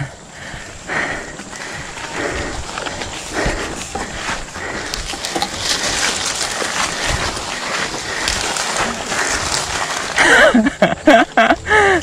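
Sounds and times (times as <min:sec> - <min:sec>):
bike tyres on dirt and leaves: 0:00.0 - 0:12.0
bike rattling clicks and knocks: 0:01.3 - 0:11.5.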